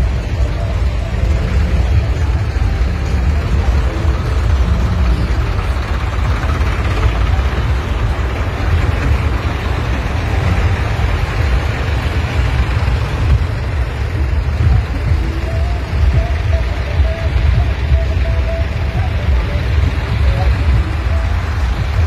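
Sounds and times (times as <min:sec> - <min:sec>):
tractor engines rumbling: 0:00.0 - 0:22.0.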